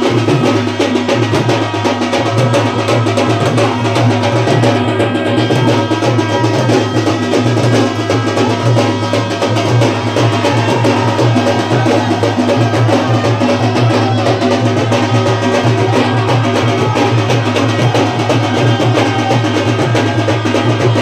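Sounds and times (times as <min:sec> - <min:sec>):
loud music with driving drum beat: 0:00.0 - 0:21.0.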